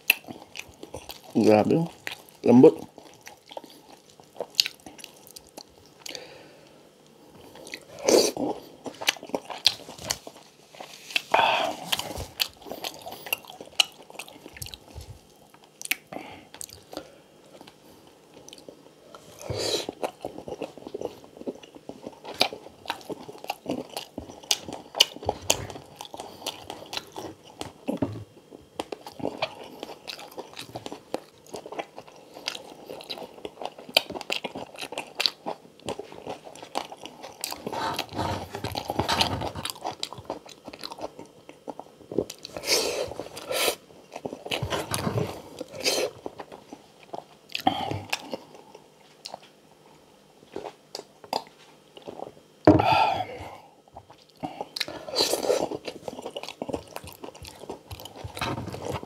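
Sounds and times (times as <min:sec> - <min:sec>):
chewing and crunching crispy food: 0:00.0 - 0:52.6, 0:53.5 - 0:59.0.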